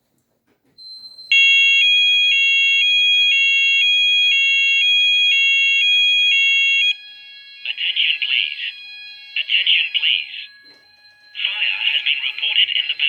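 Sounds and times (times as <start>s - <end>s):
two-tone fire alarm warble: 0.8s - 13.0s.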